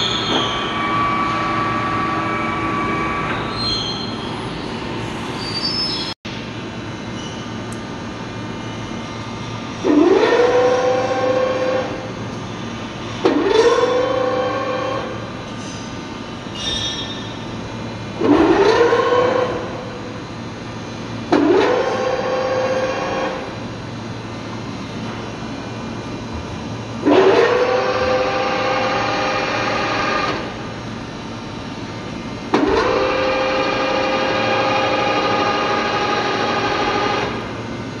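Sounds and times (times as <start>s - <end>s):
milling machine feed drive whine: 0.0s - 38.0s.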